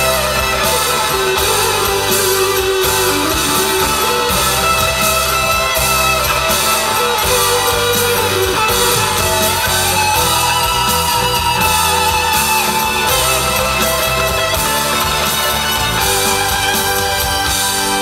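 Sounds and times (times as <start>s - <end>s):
electric guitar playing lead: 0.0s - 18.0s
live band playing: 0.0s - 18.0s.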